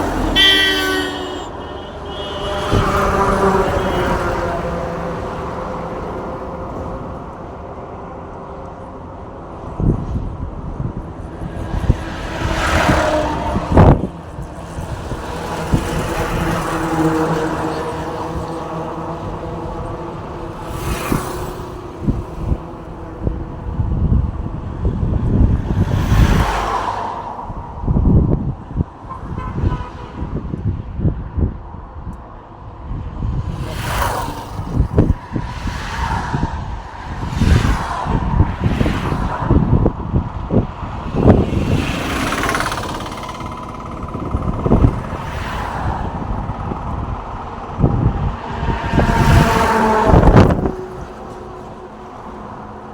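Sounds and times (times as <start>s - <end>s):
vehicle passing: 0.0s - 7.6s, 10.9s - 28.5s, 33.2s - 52.9s
vehicle engine hum: 0.0s - 29.4s, 36.4s - 52.9s
low traffic rumble: 0.0s - 52.9s.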